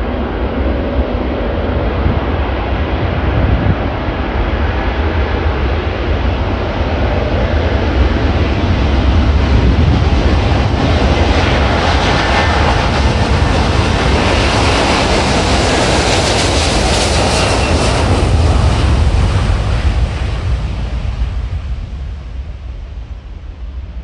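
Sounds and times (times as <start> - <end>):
jet aircraft roar: 0.0 - 24.0.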